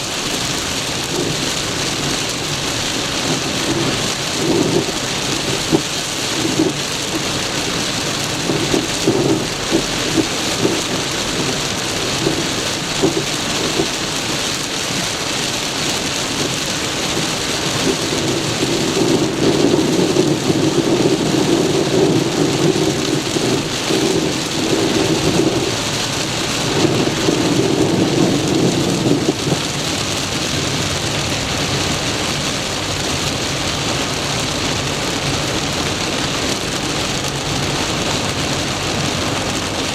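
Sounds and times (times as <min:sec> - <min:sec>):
deep rumble: 0:00.0 - 0:39.9
heavy rain drumming on car roof: 0:00.0 - 0:39.9.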